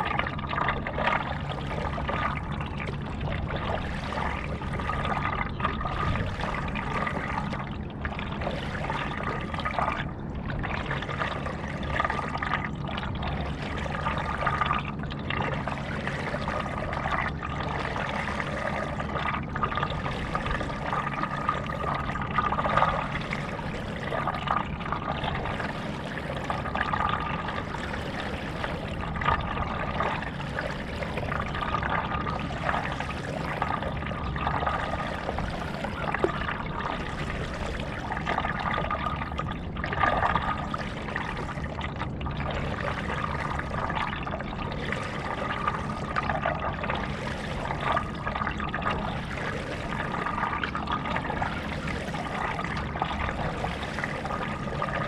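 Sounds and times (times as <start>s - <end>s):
paddle strokes in water: 0.0s - 55.0s
water splashing: 0.0s - 55.0s.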